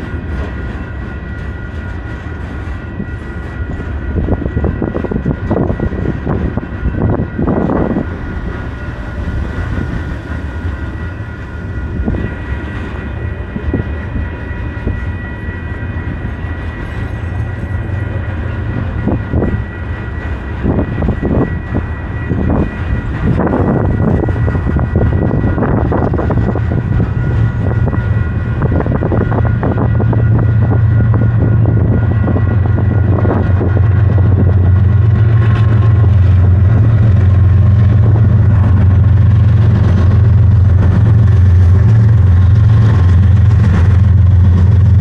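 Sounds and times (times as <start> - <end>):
freight train rumbling past: 0.0 - 45.0
low hum: 0.0 - 45.0.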